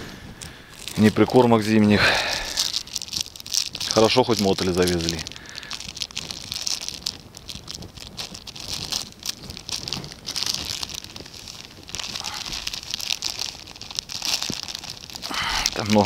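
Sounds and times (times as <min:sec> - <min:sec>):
plastic packet crinkling: 0:00.3 - 0:16.0.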